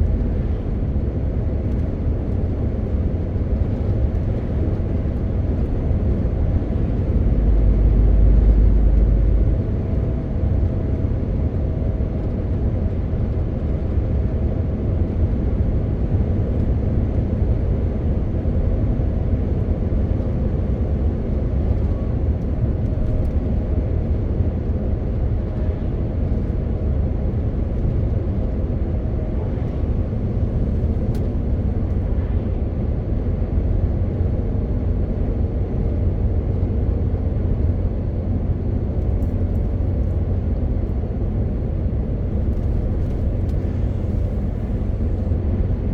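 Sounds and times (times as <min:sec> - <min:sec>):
truck driving drone: 0:00.0 - 0:14.3, 0:16.0 - 0:45.9
heavy low rumble: 0:00.0 - 0:45.9.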